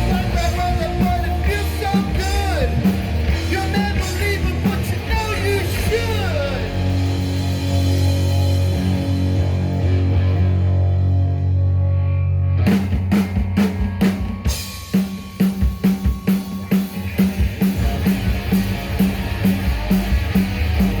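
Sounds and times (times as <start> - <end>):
drum kit beat: 0.0 - 10.4, 12.7 - 21.0
bass and guitar chord ringing: 0.0 - 21.0.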